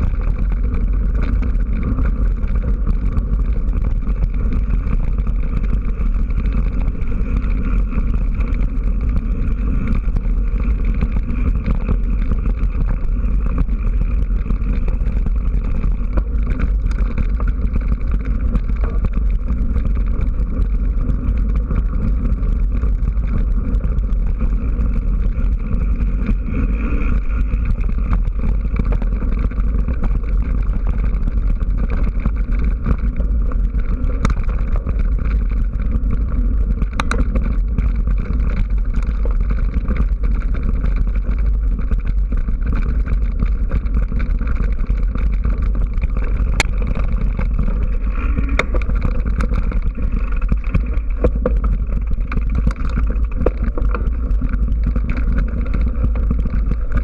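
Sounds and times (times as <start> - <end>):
bike rattling on gravel: 0.0 - 57.0
wind rumble: 0.0 - 57.0.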